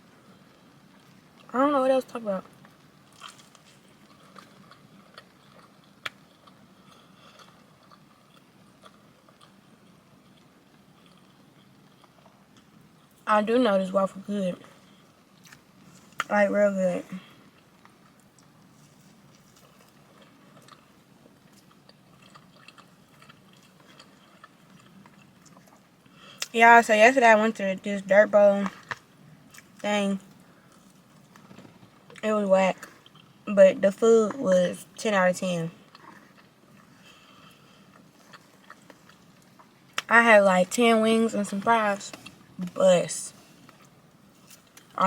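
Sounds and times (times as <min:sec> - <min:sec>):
low steady hum: 0:00.0 - 0:45.0
chewing and wet mouth sounds: 0:02.5 - 0:13.3, 0:14.6 - 0:16.3, 0:17.2 - 0:26.6, 0:28.6 - 0:45.0.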